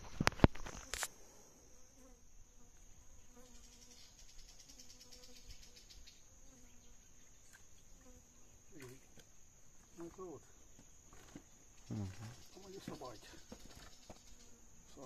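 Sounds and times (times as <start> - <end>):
insect chorus chirping: 0.0 - 15.0.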